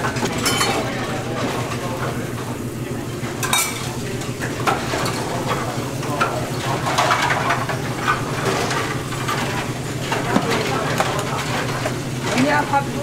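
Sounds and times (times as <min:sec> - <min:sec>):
utensils and dishes clinking: 0:00.0 - 0:02.5, 0:03.3 - 0:13.0.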